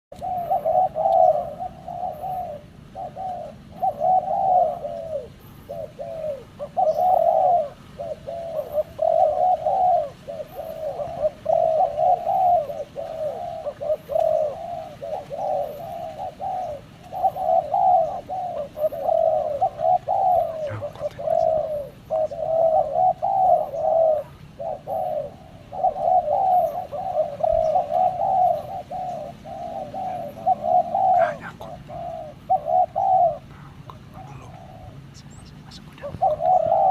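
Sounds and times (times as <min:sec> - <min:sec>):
dove cooing: 0:00.1 - 0:36.9.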